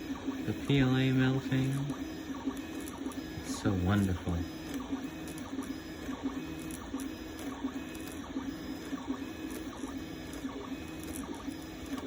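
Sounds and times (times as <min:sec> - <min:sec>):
stepper motors whirring: 0:00.0 - 0:12.0.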